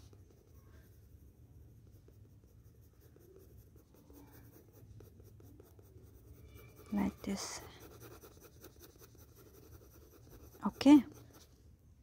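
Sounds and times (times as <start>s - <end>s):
pencil scratching on paper: 0.0s - 11.6s.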